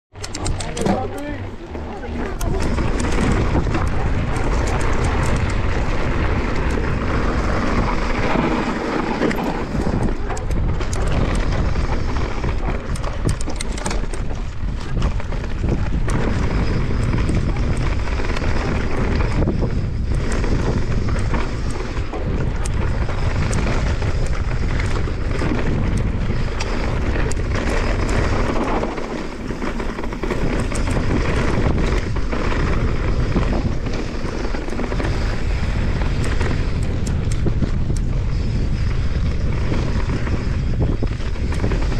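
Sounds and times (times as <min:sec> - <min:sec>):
tyres on loose ground: 0:00.1 - 0:41.9
wind buffeting microphone: 0:00.1 - 0:41.9
bike rattling over stones: 0:00.2 - 0:41.9.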